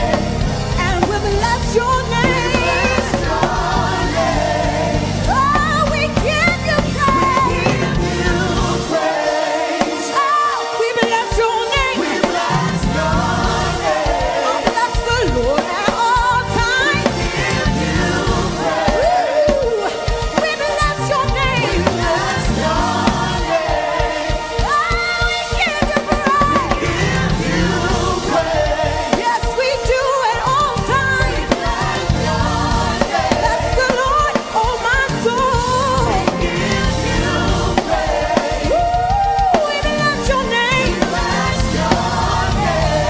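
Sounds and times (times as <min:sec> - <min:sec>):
gospel instrumental accompaniment: 0:00.0 - 0:43.0
singer's voice: 0:00.0 - 0:43.0.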